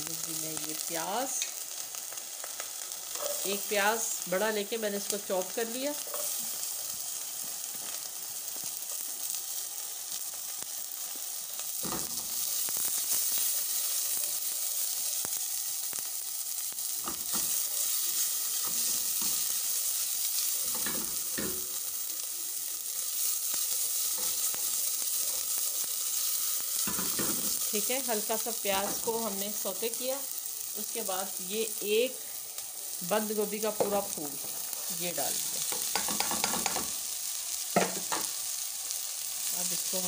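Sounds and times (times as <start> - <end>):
onion sizzling in hot oil: 0.0 - 40.0.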